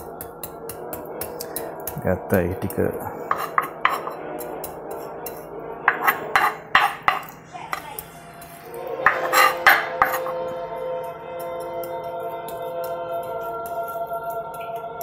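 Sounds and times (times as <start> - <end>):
utensils and dishes clinking: 0.0 - 15.0.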